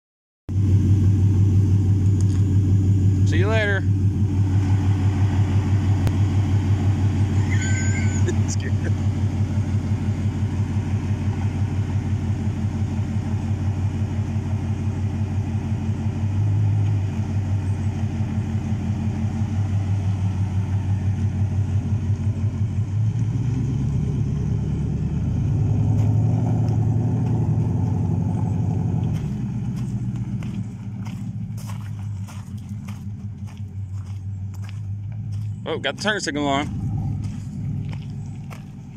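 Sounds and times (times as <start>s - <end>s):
pickup truck engine idling: 0.5s - 38.9s
truck pulling away: 0.5s - 38.9s.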